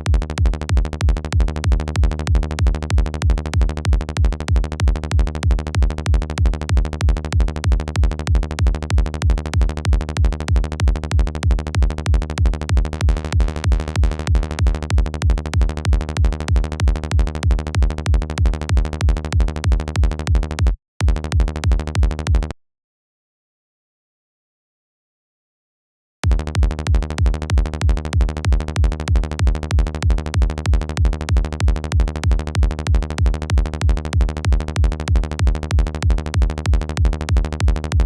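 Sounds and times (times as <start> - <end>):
electronic kick drum: 0.0 - 22.6, 26.2 - 38.0
synth bass: 0.0 - 22.6, 26.2 - 38.0.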